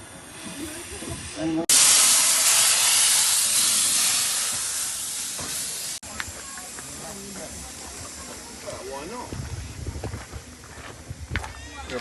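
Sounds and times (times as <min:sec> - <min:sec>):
steam locomotive hissing: 0:00.0 - 0:11.1.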